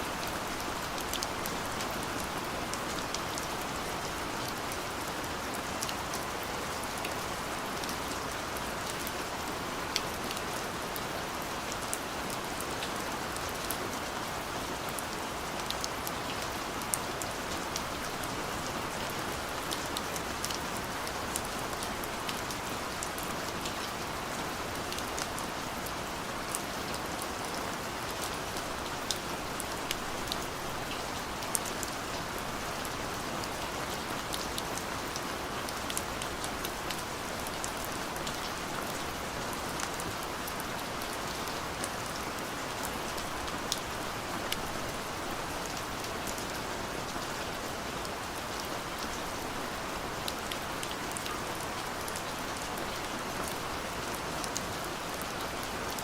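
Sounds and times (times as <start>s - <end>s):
hiss of rain: 0.0s - 56.0s.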